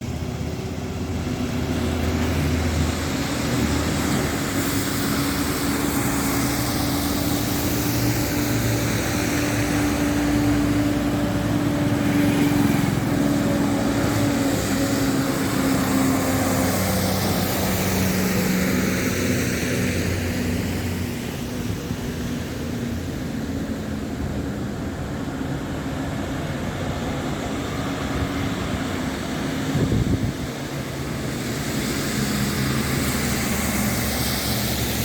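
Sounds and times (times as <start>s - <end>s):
diesel truck engines droning: 0.0s - 35.0s.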